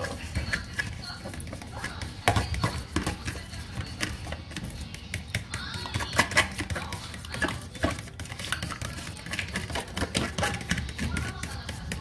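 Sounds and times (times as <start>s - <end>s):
fork tapping plastic container: 0.0s - 12.0s.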